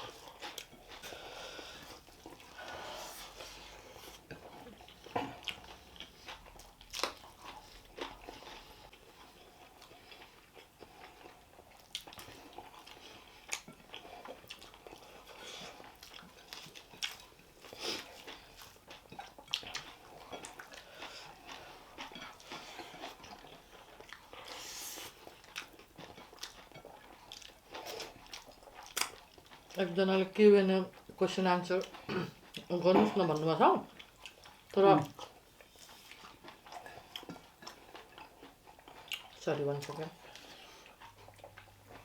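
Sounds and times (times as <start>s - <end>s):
chewing and biting food: 0.0s - 42.0s.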